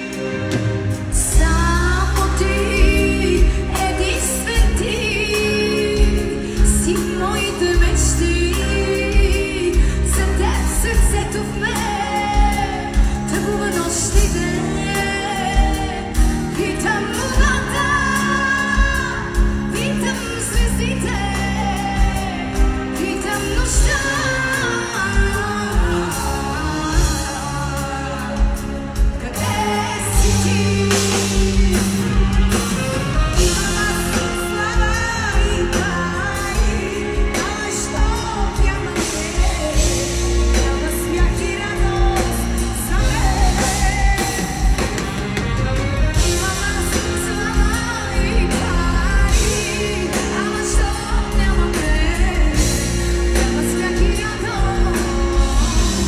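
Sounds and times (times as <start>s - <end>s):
band with drums guitar and strings: 0.0s - 56.0s
woman singing lead vocals: 0.0s - 56.0s.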